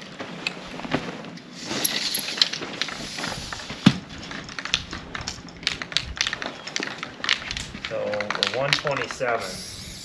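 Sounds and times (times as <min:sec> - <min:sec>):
footsteps on gravel: 0:00.0 - 0:09.4.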